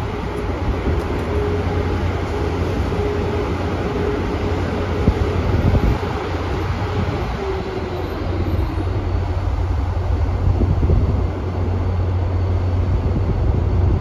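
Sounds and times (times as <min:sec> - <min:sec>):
electric train low rumble: 0:00.0 - 0:14.0.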